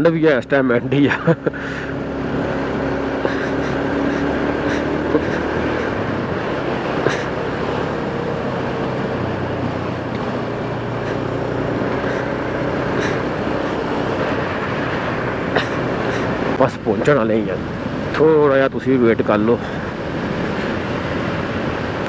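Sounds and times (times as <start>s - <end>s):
motorcycle engine running: 0.0s - 18.2s
wind and road noise: 0.0s - 22.0s.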